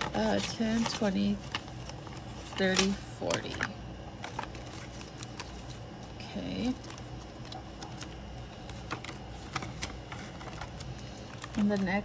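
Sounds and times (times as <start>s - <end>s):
paper money rustling: 0.0s - 12.0s.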